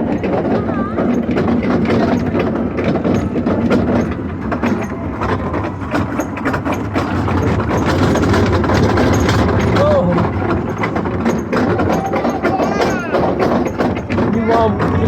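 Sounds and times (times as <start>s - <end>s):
low hum: 0.0s - 12.3s
ride cars rattling: 0.0s - 15.0s.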